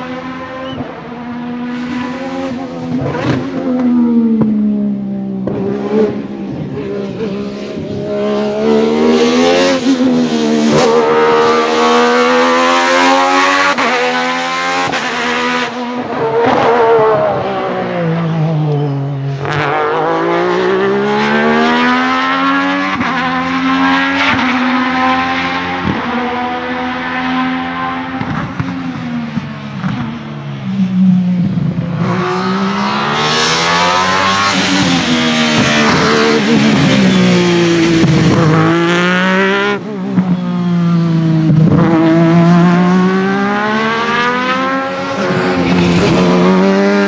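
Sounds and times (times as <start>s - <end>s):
race car engine revving: 0.0s - 47.0s.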